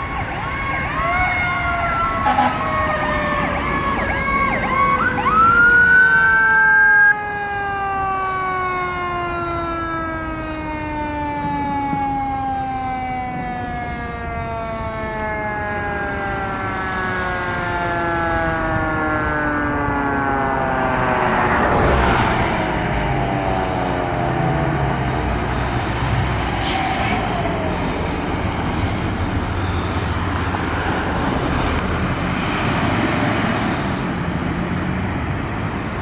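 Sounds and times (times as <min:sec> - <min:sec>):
electronic siren yelping and wailing: 0:00.0 - 0:31.8.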